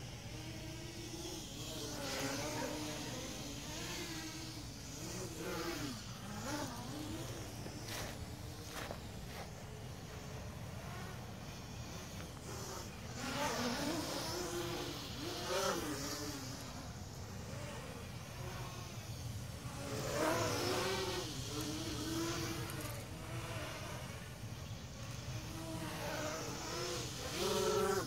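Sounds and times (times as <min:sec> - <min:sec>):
drone propellers whirring: 0:00.0 - 0:28.0.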